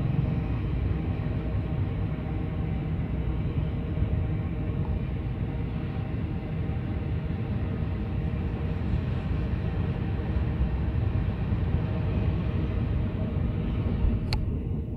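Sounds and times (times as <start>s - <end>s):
train wheels rumbling on track: 0.0s - 14.9s.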